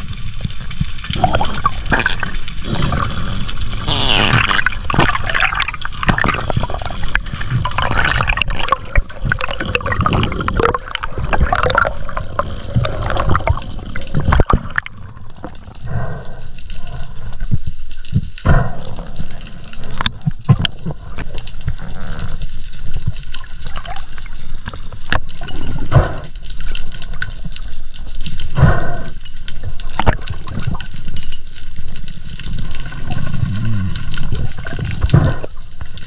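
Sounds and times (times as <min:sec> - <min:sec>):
underwater water rushing and gurgling: 0:00.0 - 0:36.0.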